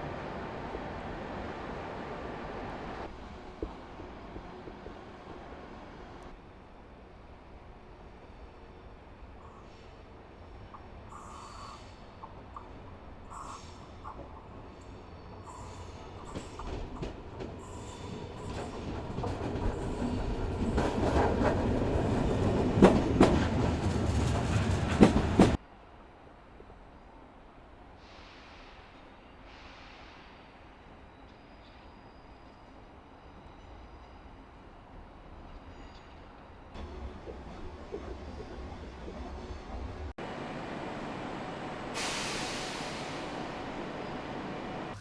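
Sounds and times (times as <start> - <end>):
train rolling past: 0.0 - 25.6, 26.3 - 45.0.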